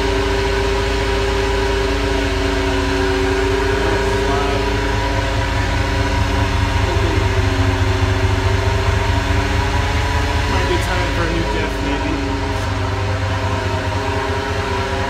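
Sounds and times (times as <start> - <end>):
drivetrain whine: 0.0 - 15.0
low hum: 0.0 - 15.0.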